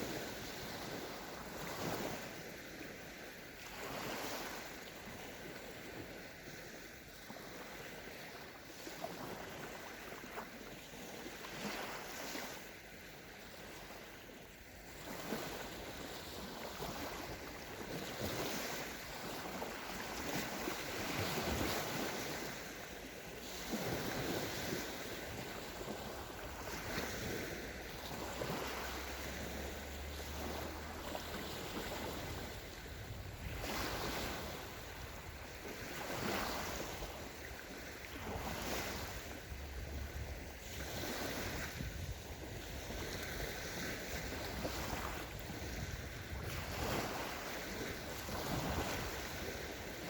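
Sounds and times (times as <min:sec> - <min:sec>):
waves washing up sandy shore: 0:00.0 - 0:50.0
wind rumble on microphone: 0:00.0 - 0:50.0.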